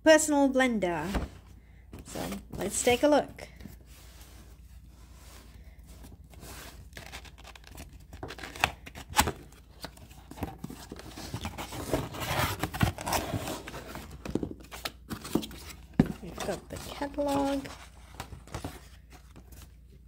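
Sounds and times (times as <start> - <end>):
cardboard scraping and rustling: 2.0 - 19.8.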